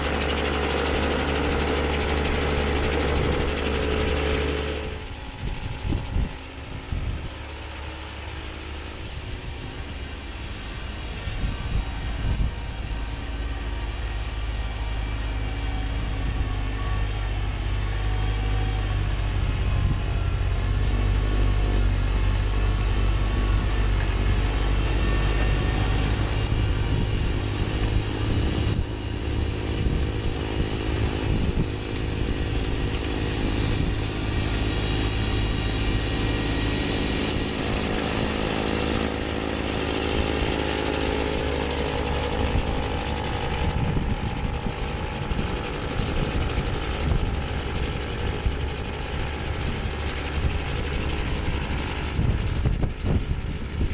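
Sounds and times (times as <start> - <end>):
snowblower churning snow: 0.0 - 53.9
tractor diesel engine running: 0.0 - 53.9.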